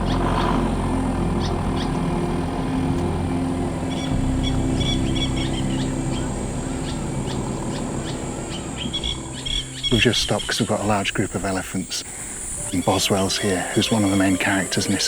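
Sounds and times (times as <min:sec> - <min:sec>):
birds chirping: 0:00.0 - 0:15.0
vehicle engine humming: 0:00.0 - 0:15.0.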